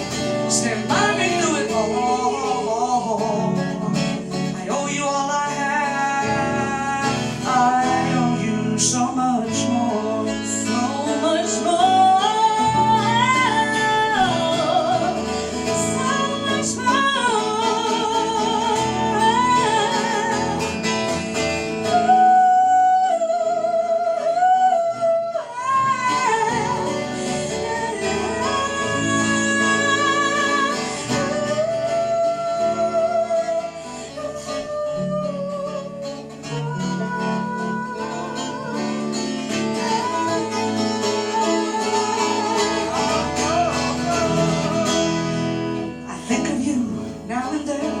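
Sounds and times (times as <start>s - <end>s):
acoustic guitar: 0.0s - 48.0s.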